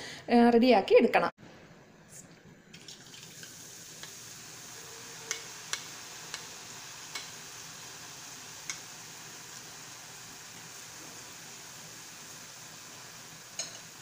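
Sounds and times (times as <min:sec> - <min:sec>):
batter sizzling in hot oil: 0:02.6 - 0:14.0.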